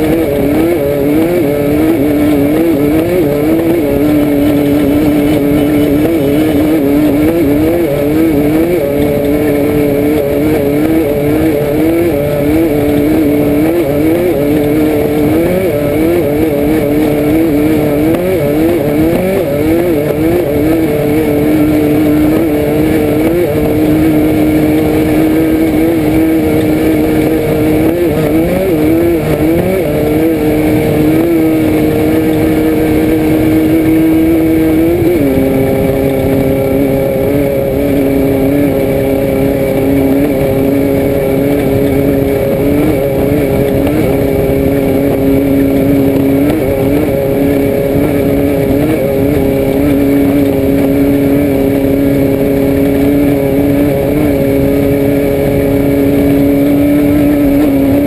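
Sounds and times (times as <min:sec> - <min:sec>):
car engine revving: 0:00.0 - 0:58.0
constant low rumble: 0:00.0 - 0:58.0.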